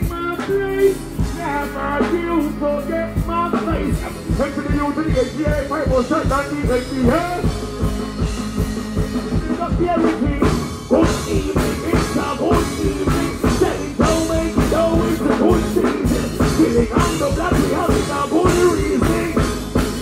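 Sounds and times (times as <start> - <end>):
person singing into a microphone: 0.0 - 7.5, 9.3 - 19.8
dancehall backing track with drum beat: 0.0 - 20.0.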